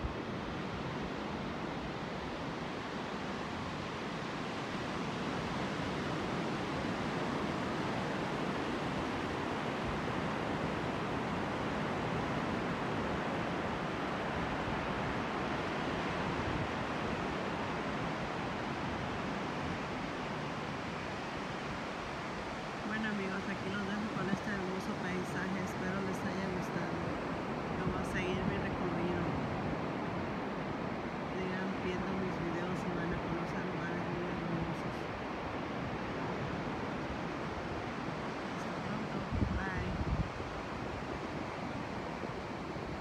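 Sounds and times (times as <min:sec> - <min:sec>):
surf waves breaking: 0:00.0 - 0:43.0.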